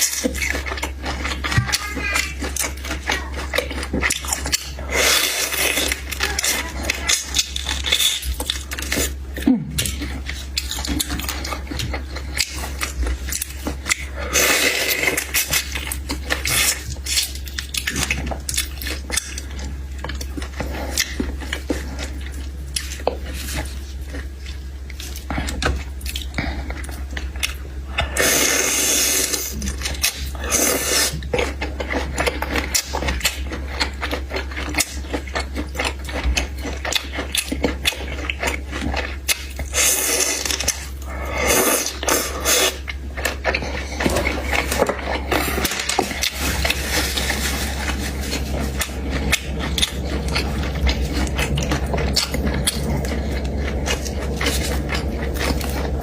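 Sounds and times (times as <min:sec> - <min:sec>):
eating clicks and scrapes: 0:00.0 - 0:56.0
steady low hum: 0:00.0 - 0:56.0.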